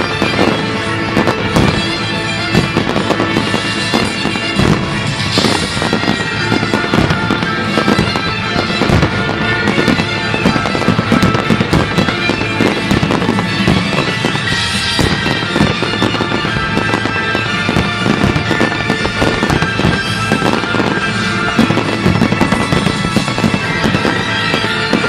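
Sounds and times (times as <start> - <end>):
fireworks bangs and crackling: 0.0 - 25.0
music with sustained tones: 0.0 - 25.0.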